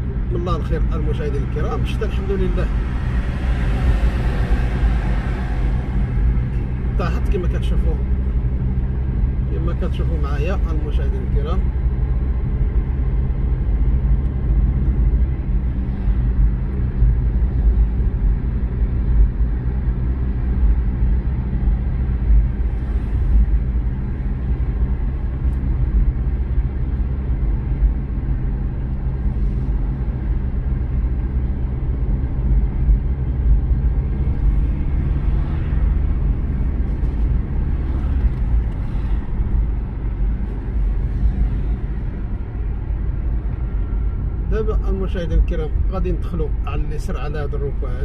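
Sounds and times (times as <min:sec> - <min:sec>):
car engine rumble: 0:00.0 - 0:48.0
tyres on road: 0:00.0 - 0:48.0.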